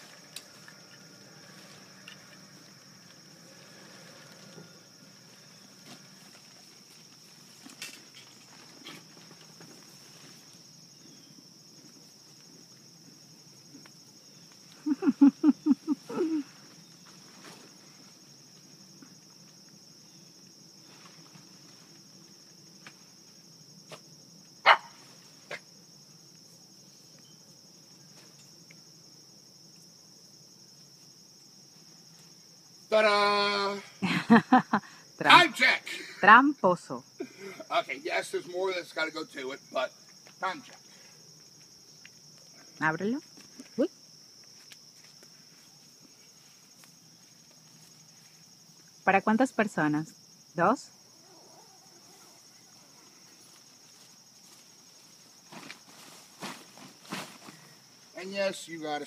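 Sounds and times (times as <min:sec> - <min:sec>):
tent fabric and poles rustling: 0:00.0 - 0:15.0, 0:15.6 - 0:28.9, 0:30.6 - 0:33.8, 0:37.2 - 0:49.0, 0:51.2 - 0:59.0
insects chirring: 0:00.0 - 0:59.0.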